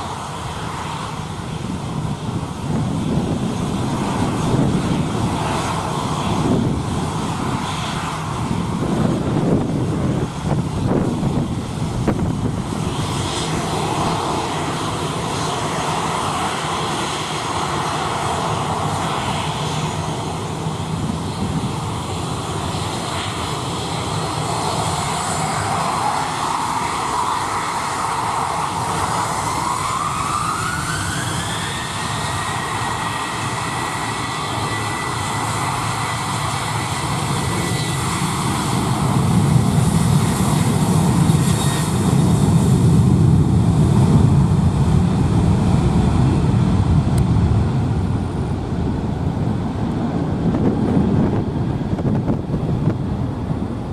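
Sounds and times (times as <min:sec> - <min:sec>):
airliner engines rumbling: 0:00.0 - 0:53.9
rising engine whine: 0:00.0 - 0:53.9.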